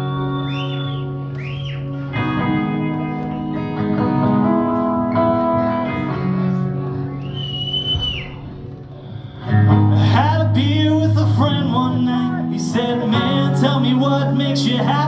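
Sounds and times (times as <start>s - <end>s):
guitar chords ringing: 0.0s - 15.0s
live rock band playing: 0.0s - 15.0s.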